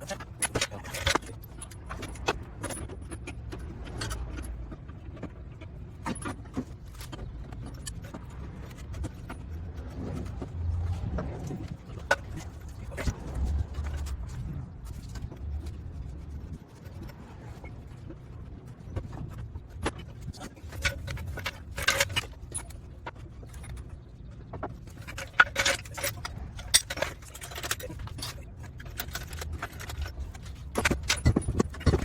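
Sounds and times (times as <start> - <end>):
metallic clinks and knocks: 0.0 - 18.3, 18.9 - 32.0
low steady rumble: 0.0 - 32.0.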